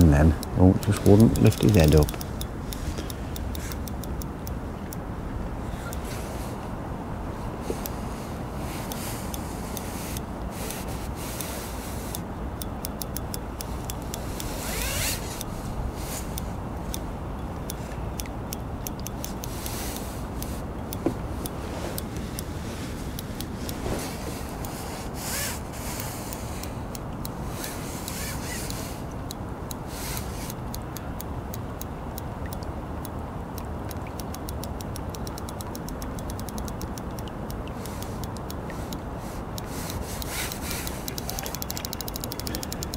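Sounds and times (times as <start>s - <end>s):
fishing reel ticking: 0.0s - 4.6s, 8.8s - 23.8s, 24.4s - 31.9s, 32.5s - 42.9s.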